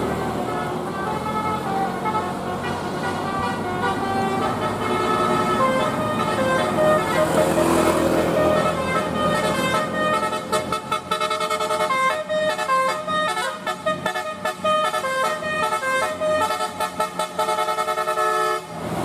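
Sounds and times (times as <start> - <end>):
musical bus horn tune: 0.0 - 18.8
low bus noise: 0.0 - 19.0.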